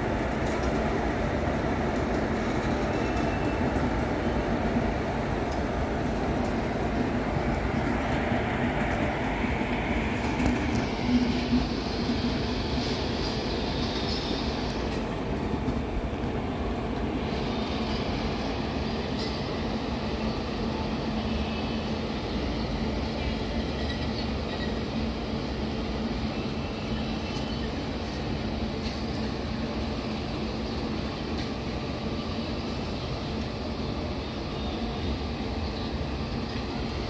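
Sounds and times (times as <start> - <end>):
train rumbling past: 0.0 - 37.0.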